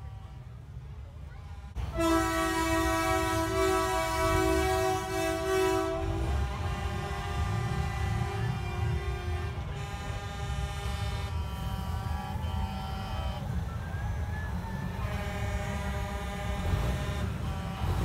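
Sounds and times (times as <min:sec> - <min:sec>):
truck diesel engines rumbling: 0:00.0 - 0:18.0
air horns blowing: 0:01.8 - 0:13.8, 0:14.9 - 0:18.0.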